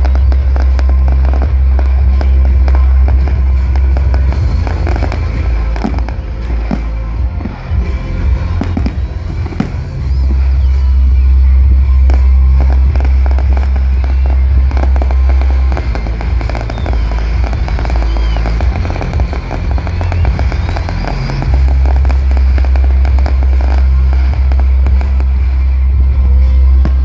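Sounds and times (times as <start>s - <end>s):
fireworks crackling and popping: 0.0s - 27.0s
heavy low rumble: 0.0s - 27.0s
music: 0.0s - 27.0s.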